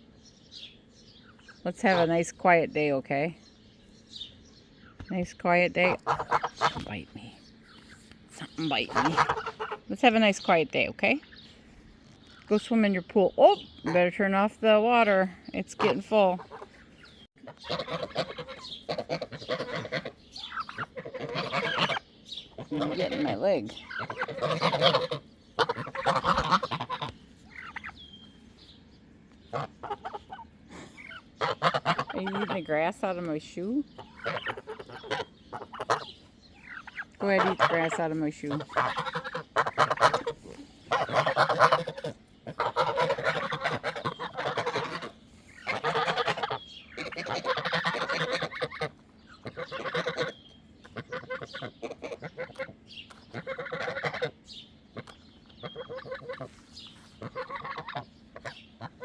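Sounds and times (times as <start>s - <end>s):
chickens clucking: 5.1s - 11.2s, 13.8s - 28.4s, 29.3s - 59.0s
geese honking: 5.4s - 7.3s, 8.4s - 11.2s, 12.6s - 28.1s, 29.4s - 59.0s.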